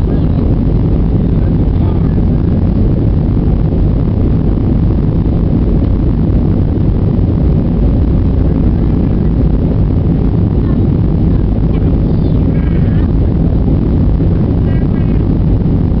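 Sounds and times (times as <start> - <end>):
airliner cabin engine drone: 0.0 - 16.0.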